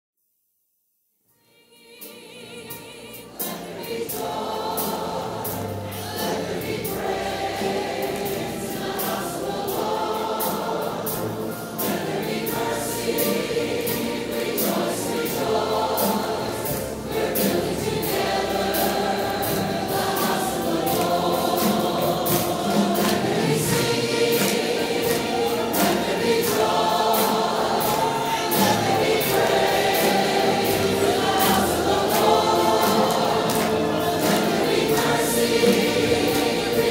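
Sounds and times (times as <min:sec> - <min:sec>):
gospel choir singing: 0:01.3 - 0:36.9.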